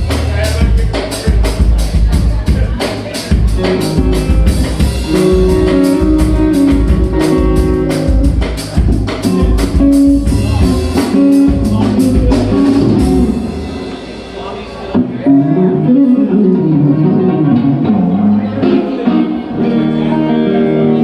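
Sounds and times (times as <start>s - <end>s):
drum kit: 0.0s - 17.3s
amplified guitar: 0.0s - 21.0s.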